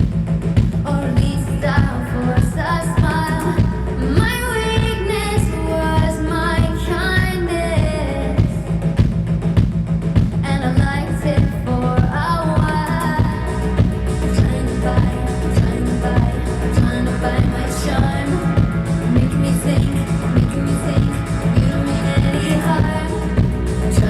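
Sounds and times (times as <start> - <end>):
steady drum beat: 0.0 - 24.0
pop-rock band playing: 0.5 - 24.0.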